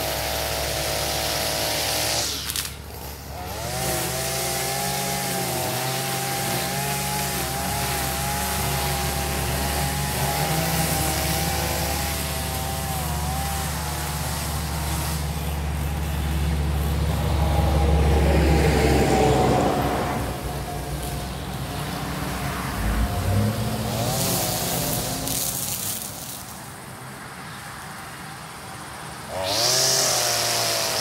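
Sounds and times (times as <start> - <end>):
small gasoline engine running: 0.0 - 21.5, 22.8 - 26.6, 29.3 - 31.0.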